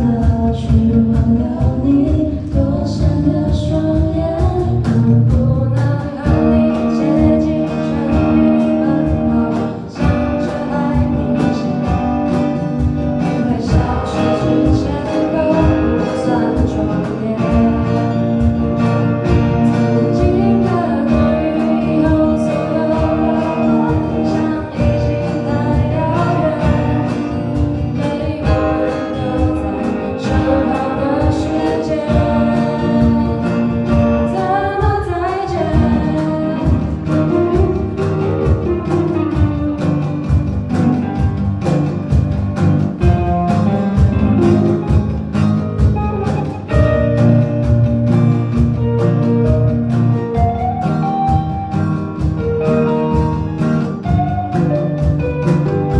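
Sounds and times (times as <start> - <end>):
pop song with guitar and singing: 0.0 - 55.9.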